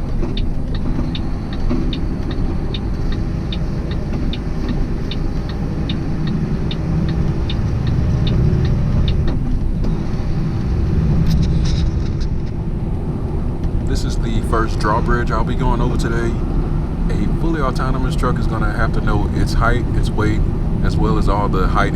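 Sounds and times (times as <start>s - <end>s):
truck engine and road noise: 0.0s - 21.9s
turn signal ticking: 0.0s - 21.9s.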